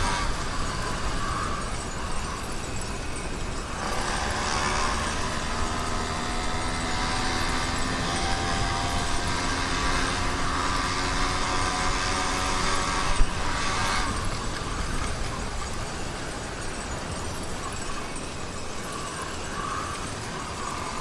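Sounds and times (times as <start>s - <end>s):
two-stroke engine running: 0.0s - 17.6s.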